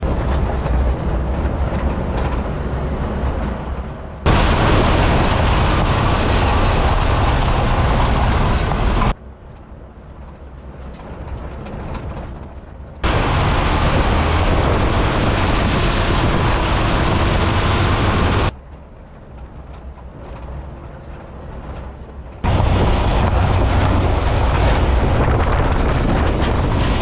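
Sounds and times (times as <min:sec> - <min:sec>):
vehicle driving rumble: 0:00.0 - 0:27.0.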